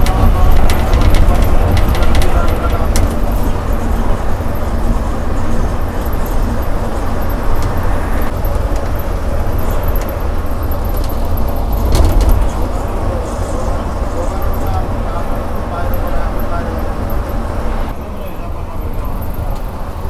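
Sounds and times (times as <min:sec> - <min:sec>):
road rumble inside coach: 0:00.0 - 0:20.0.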